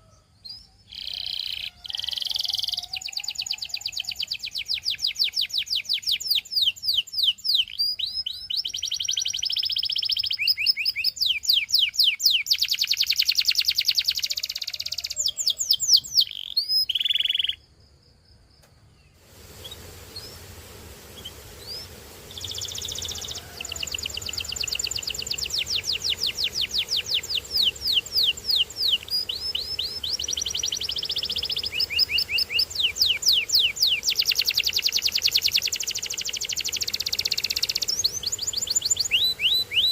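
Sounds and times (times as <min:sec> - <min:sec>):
canary singing: 0:00.0 - 0:17.6, 0:21.1 - 0:39.9
faint hiss: 0:00.9 - 0:16.3, 0:18.4 - 0:39.9.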